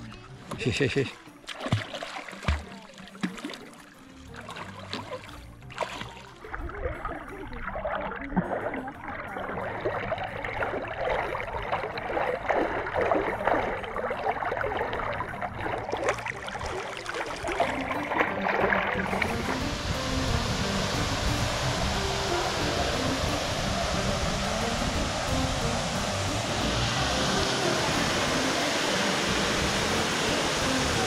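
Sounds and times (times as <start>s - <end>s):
water sloshing and gurgling: 0.0s - 31.0s.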